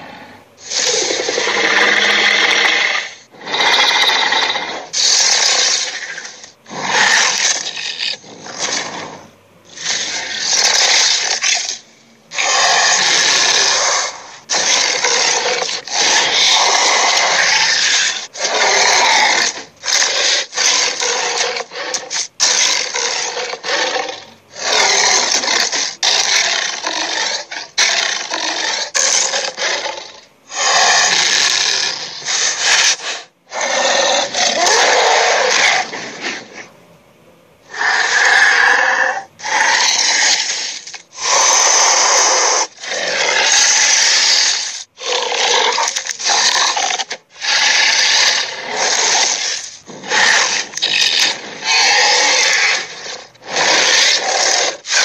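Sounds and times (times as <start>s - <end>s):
raspy monster growls: 0.0s - 36.7s, 37.7s - 55.0s.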